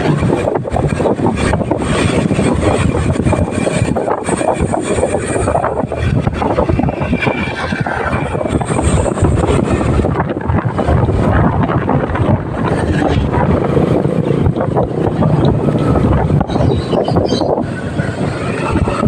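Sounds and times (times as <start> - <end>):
rush of riding: 0.0 - 19.0.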